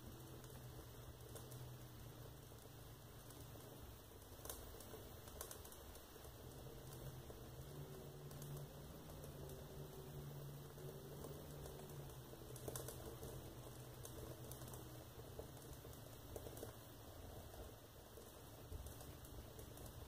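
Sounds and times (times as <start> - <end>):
fire crackling in wood stove: 0.0 - 20.0
low steady hum: 0.0 - 20.0.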